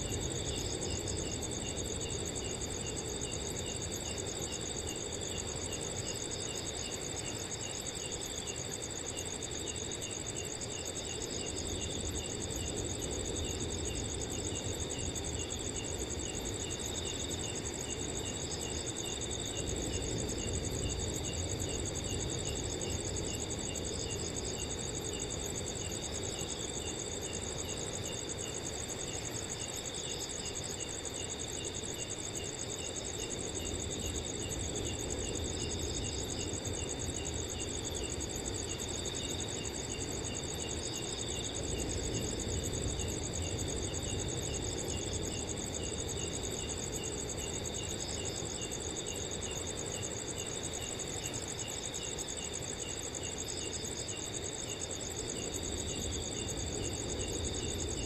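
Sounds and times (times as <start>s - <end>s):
cricket chirping: 0.0s - 58.0s
cricket trilling: 0.0s - 58.0s.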